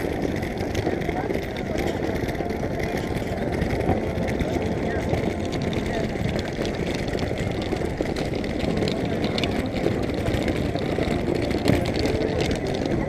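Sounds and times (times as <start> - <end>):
suitcases rolling over bricks: 0.0 - 13.0.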